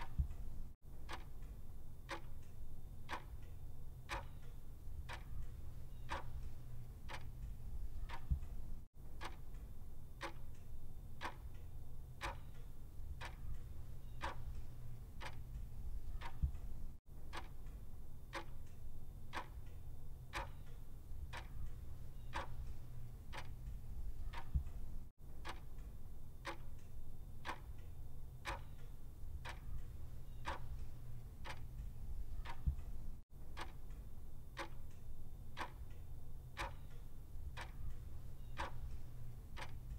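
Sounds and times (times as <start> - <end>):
clock ticking: 0.0 - 36.0, 36.6 - 39.9
low steady hum: 0.0 - 39.9.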